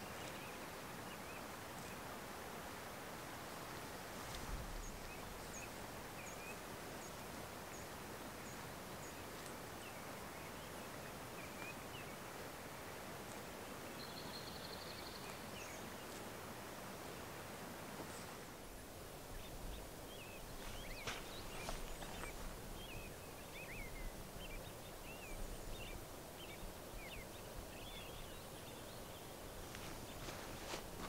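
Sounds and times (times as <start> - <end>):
background hiss: 0.0 - 31.0
songbirds chirping: 0.0 - 31.0.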